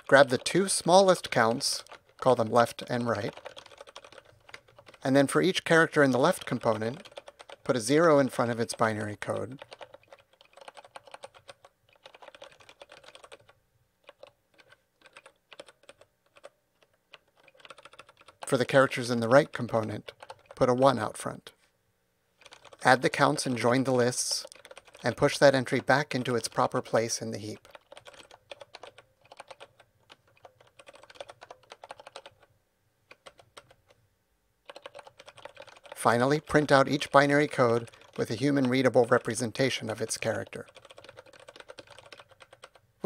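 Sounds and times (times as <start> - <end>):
keyboard typing: 0.0 - 21.4, 22.4 - 32.5, 33.1 - 34.0, 34.6 - 42.8.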